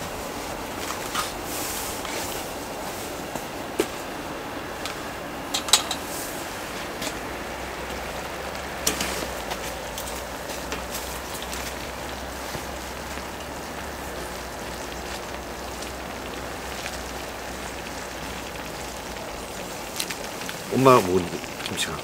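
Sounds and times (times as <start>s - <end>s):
stew bubbling and sizzling: 0.0s - 22.0s.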